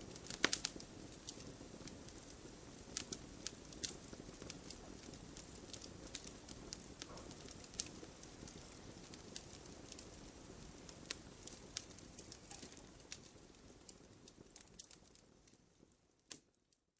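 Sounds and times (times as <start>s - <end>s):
rain hiss: 0.0s - 14.5s
wood fire crackling: 0.0s - 16.9s.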